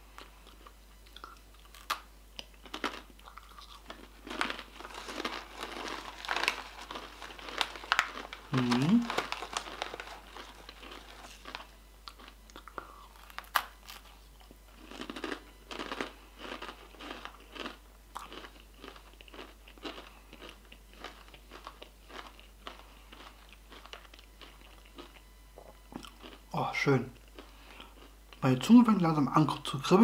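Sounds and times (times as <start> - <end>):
chips being bitten and chewed: 0.1 - 25.2.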